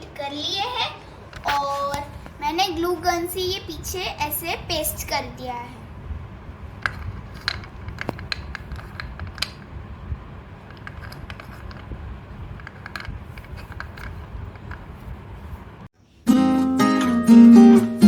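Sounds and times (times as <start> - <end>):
low steady rumble: 0.0 - 15.9.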